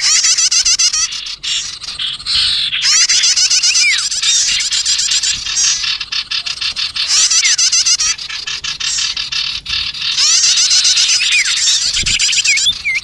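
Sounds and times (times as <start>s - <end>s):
small songbirds chirping and trilling: 0.0s - 13.0s.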